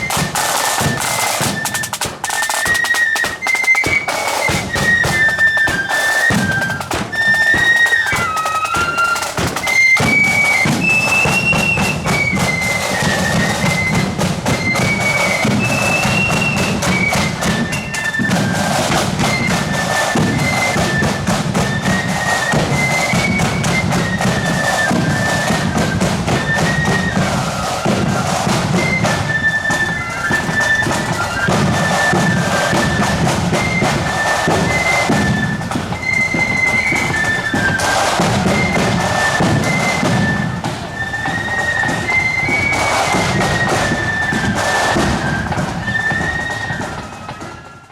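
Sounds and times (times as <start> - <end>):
flutes playing melody: 0.0 - 47.9
snare drums: 0.0 - 47.9.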